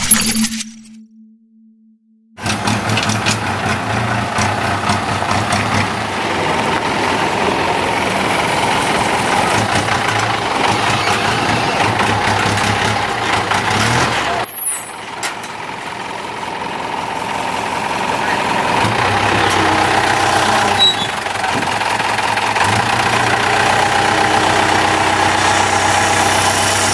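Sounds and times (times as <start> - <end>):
truck engine running: 2.4 - 26.9.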